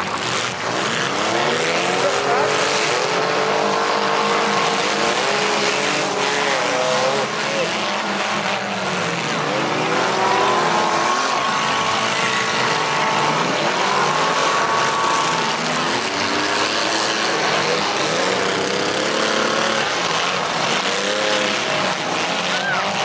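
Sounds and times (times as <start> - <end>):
car engines revving: 0.0 - 23.0
steady noisy din: 0.0 - 23.0.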